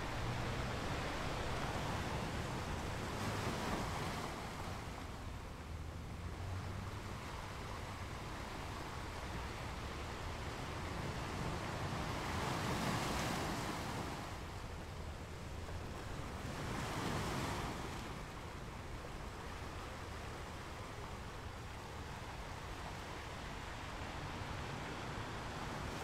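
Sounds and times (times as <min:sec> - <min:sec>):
waves crashing on rocky beach: 0:00.0 - 0:05.6, 0:07.0 - 0:26.0.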